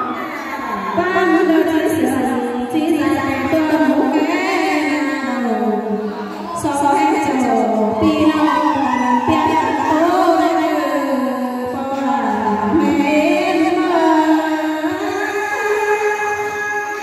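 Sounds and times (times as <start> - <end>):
woman singing through microphone: 0.0 - 17.0.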